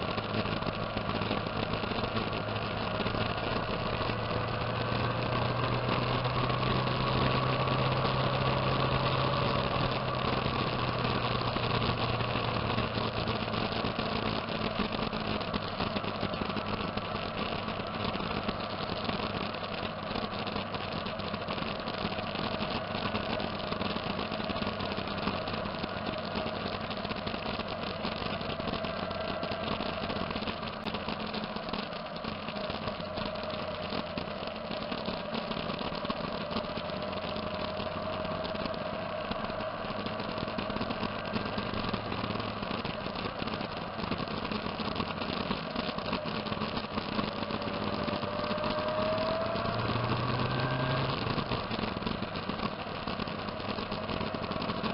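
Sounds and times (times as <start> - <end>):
motorcycle engines running: 0.0 - 54.9.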